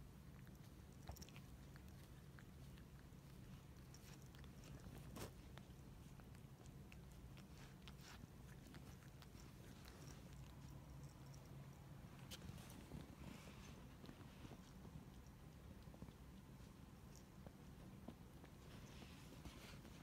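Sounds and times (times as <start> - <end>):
cat licking fur: 0.0 - 20.0
low steady hum: 0.0 - 20.0.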